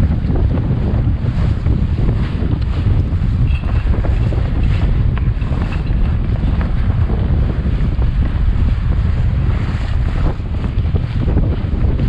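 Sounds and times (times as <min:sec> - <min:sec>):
water washing along hull: 0:00.0 - 0:12.0
wind buffeting microphone: 0:00.0 - 0:12.0.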